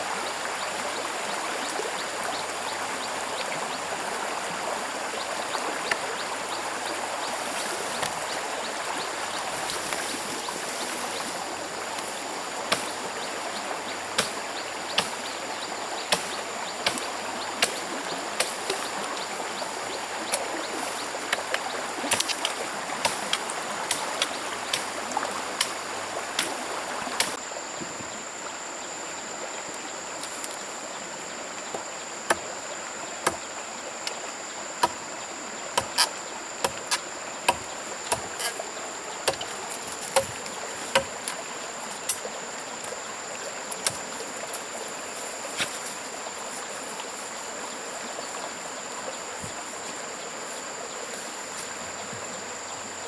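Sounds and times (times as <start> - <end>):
high insect drone: 0.0 - 53.0
stream flowing: 0.0 - 53.0.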